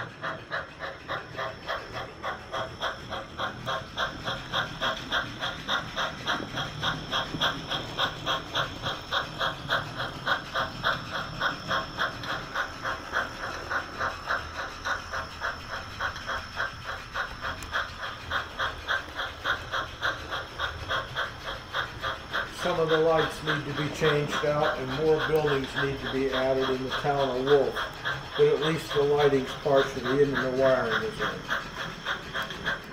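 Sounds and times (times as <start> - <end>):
model steam train chuffing: 0.0 - 32.9.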